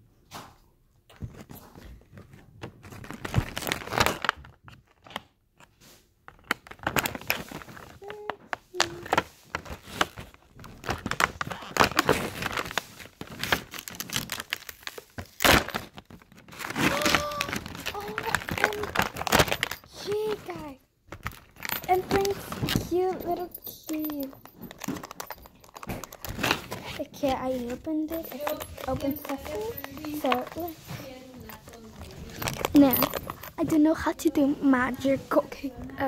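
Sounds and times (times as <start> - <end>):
packaging crinkling and rustling: 1.1 - 36.0.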